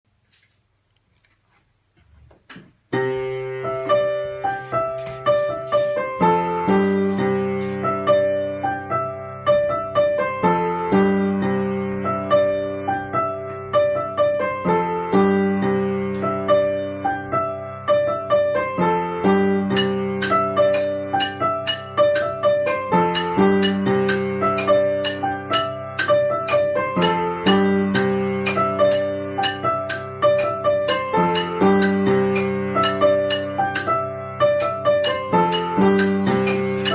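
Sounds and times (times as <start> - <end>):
piano chords: 2.9 - 36.9.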